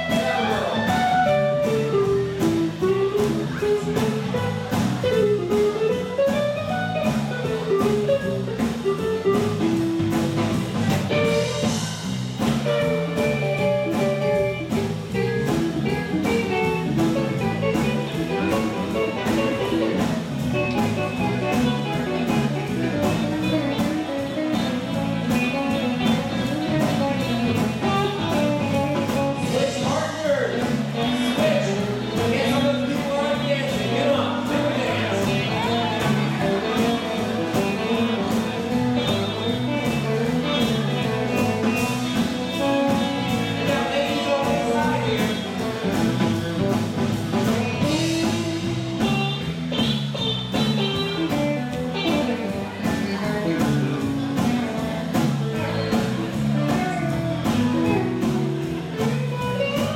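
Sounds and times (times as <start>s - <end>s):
drum kit beat: 0.0s - 59.9s
electric guitar lead: 0.0s - 59.9s.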